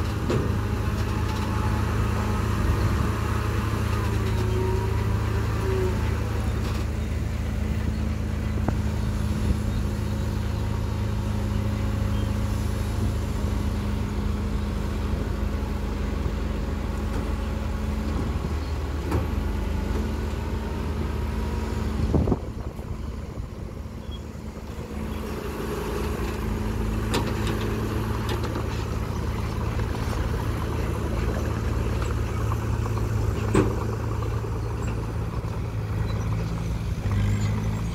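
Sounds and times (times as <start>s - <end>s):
diesel engines running: 0.0s - 37.9s.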